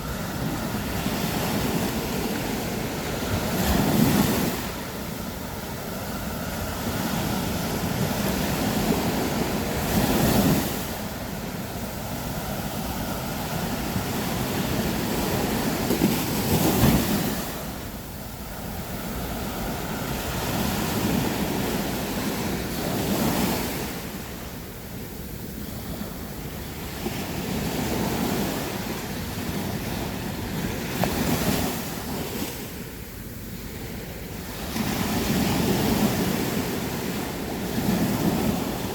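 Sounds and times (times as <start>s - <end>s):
waves breaking on beach: 0.0s - 38.9s
wind noise on microphone: 0.0s - 38.9s.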